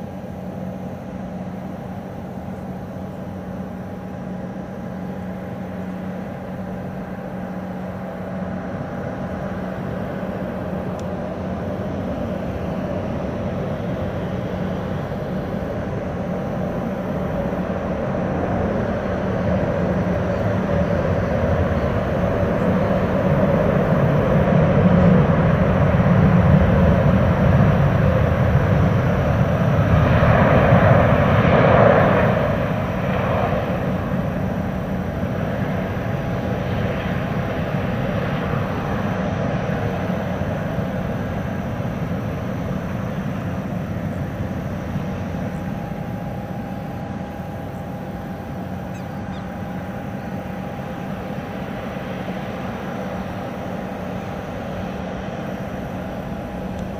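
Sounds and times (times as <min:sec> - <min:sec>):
jet engines roaring while taxiing: 0:00.0 - 0:56.9.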